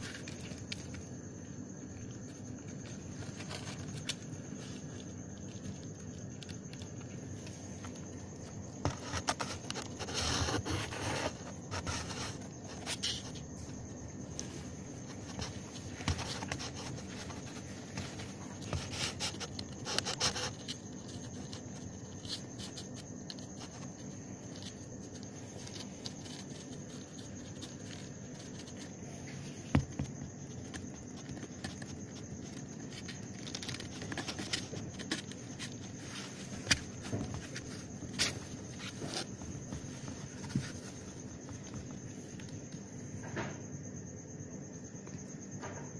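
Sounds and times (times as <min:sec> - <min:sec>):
rustling against cardboard box: 0:01.8 - 0:42.5.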